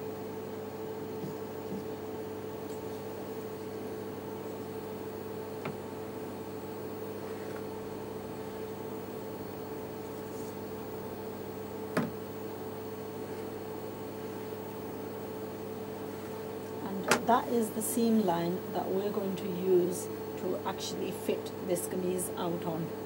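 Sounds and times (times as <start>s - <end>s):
electrical hum with hiss: 0.0s - 23.0s.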